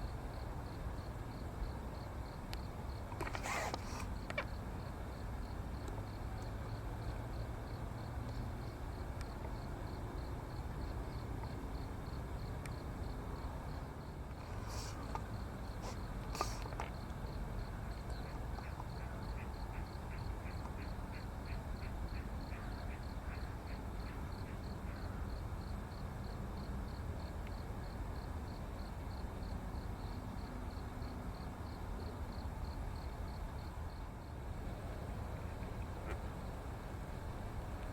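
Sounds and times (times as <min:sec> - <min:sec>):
low background noise: 0:00.0 - 0:37.9.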